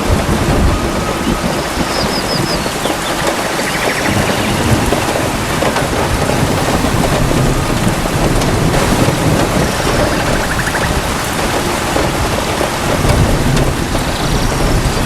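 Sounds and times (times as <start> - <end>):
heavy rain pouring: 0.0 - 15.0
low rumble of thunder: 0.0 - 15.0.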